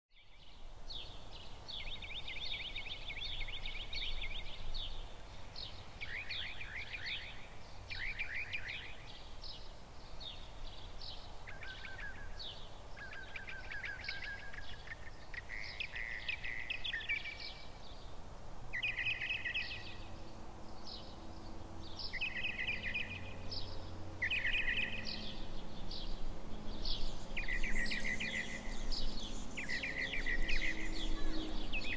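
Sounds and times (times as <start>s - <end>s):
birds singing trilled phrases: 0.1s - 31.9s.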